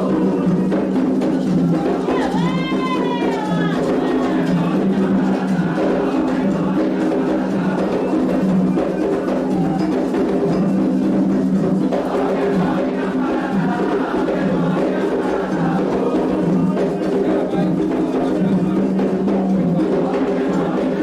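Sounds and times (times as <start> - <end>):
chorus of voices singing: 0.0 - 21.0
hand drums and percussion: 0.0 - 21.0.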